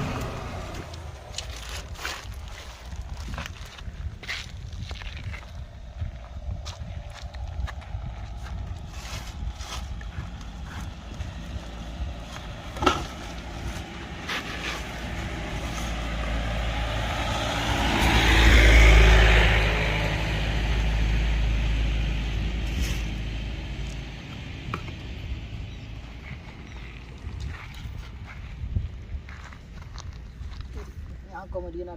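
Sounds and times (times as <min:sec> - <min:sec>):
road noise: 0:00.0 - 0:31.9
vehicle engine rumble: 0:00.0 - 0:31.9.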